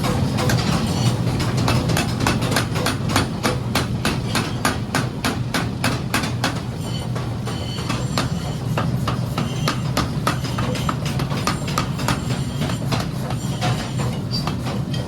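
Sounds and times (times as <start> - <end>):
hammer striking iron: 0.0 - 15.0.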